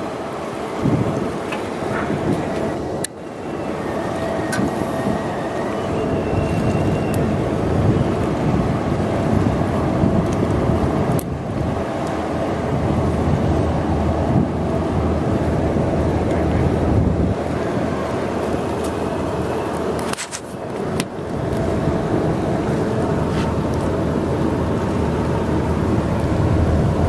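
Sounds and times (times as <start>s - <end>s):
steady low rumble: 0.0s - 27.0s
wind buffeting microphone: 0.0s - 27.0s.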